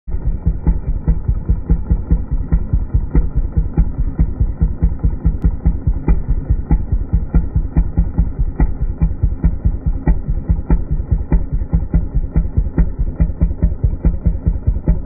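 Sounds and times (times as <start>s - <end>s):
engine idling unevenly: 0.1s - 15.0s.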